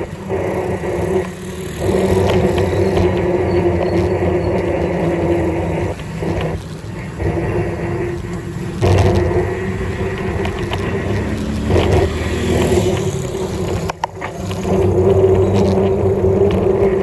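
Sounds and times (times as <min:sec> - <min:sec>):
bicycle road and wind rumble: 0:00.0 - 0:17.0.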